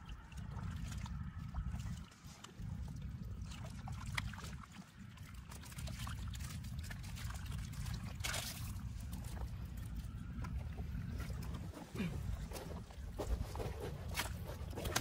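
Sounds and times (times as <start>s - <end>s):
steady low rumble: 0.0s - 15.0s
water trickling and sloshing: 0.0s - 15.0s.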